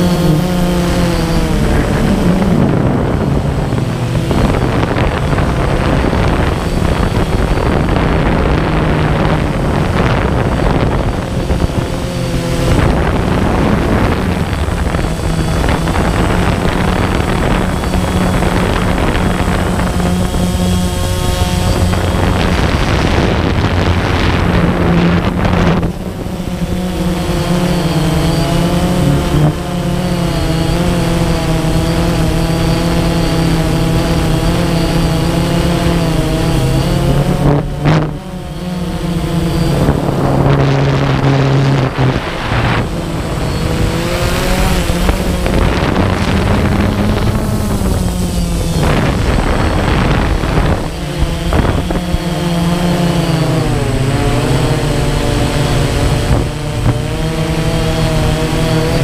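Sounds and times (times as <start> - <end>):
drone propellers buzzing: 0.0 - 59.0
wind noise on microphone: 0.0 - 59.0.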